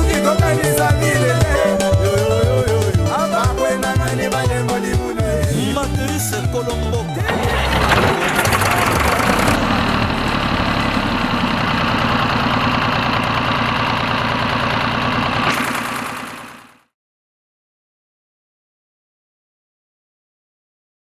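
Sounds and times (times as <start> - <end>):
tractor engine starting and running: 0.0 - 16.9.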